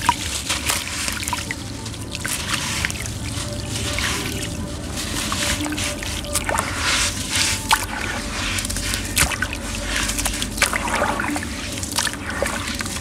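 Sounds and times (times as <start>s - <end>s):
hands sloshing in water: 0.0s - 13.0s
water splashing and trickling: 0.0s - 13.0s.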